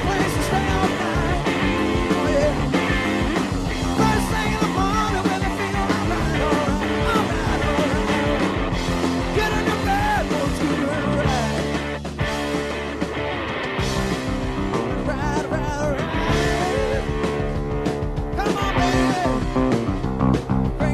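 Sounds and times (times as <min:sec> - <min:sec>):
electric guitar bending notes: 0:00.0 - 0:20.8
hard-rock band playing live: 0:00.0 - 0:20.9.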